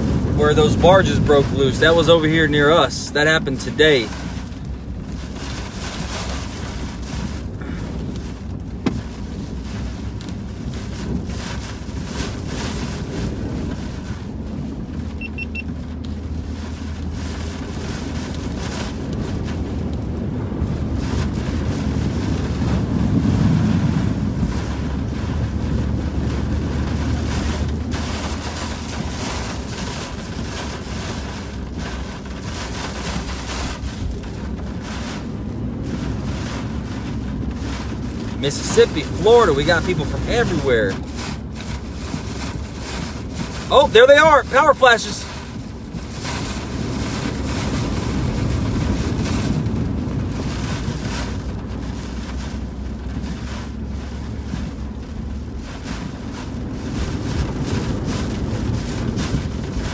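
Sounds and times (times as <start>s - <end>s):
heavy rain beating on a car: 0.0s - 59.9s
road and engine rumble: 0.0s - 59.9s
wind: 0.0s - 59.9s.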